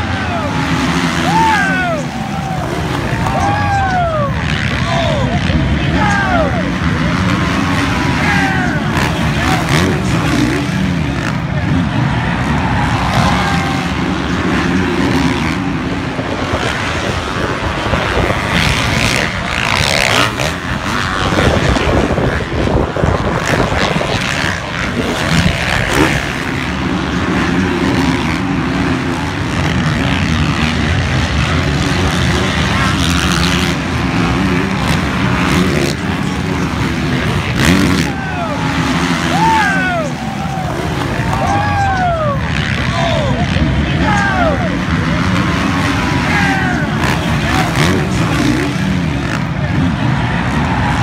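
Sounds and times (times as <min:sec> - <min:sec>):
motorbike engines revving: 0:00.0 - 0:51.0.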